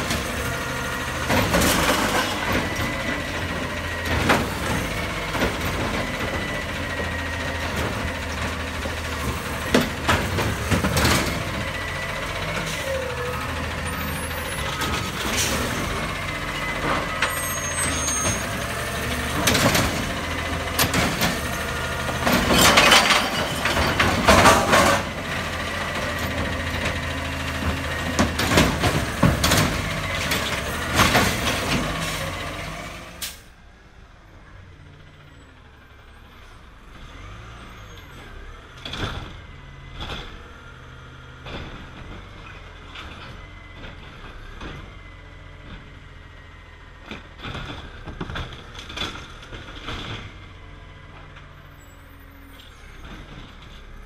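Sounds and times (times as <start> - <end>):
garbage truck engine drone: 0.0 - 54.0.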